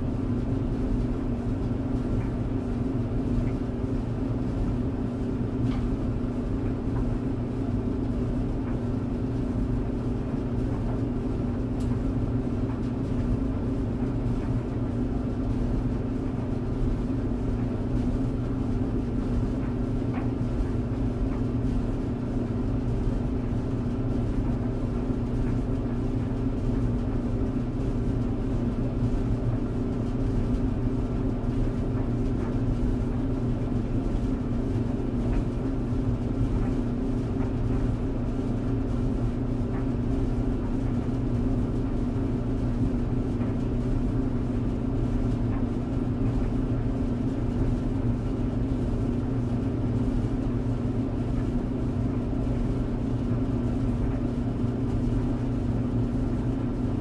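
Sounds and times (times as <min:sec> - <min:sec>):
clothes dryer humming: 0:00.0 - 0:57.0.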